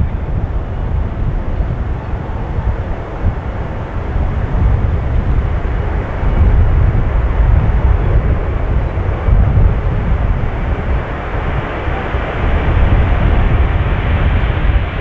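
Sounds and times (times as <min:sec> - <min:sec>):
jet engines deep rumbling roar: 0:00.0 - 0:15.0.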